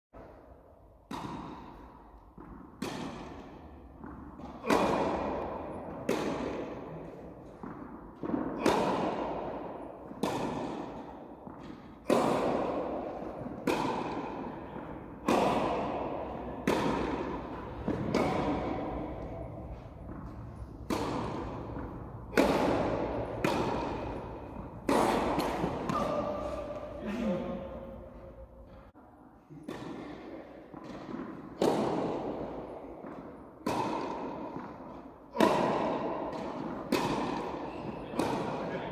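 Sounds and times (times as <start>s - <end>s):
tennis ball bouncing on court: 0.2s - 28.8s, 29.6s - 38.9s
tennis ball hit by rackets: 0.2s - 28.9s, 29.6s - 38.9s.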